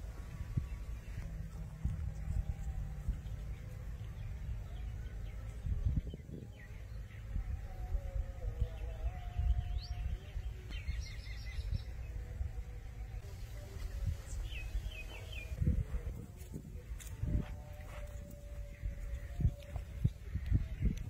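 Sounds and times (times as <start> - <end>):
low uneven rumble: 0.0 - 21.0.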